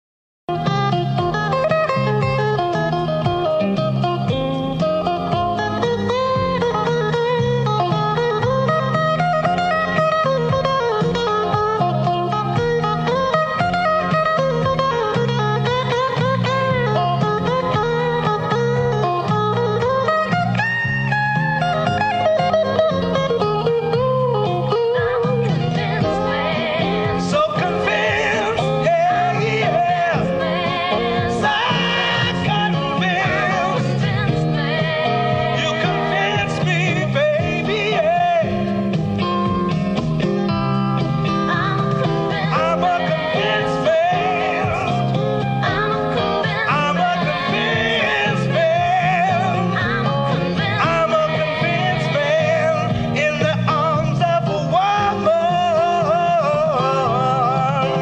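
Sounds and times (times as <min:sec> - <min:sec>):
repeating bass line: 0:00.5 - 0:58.0
rock band playing: 0:00.5 - 0:58.0.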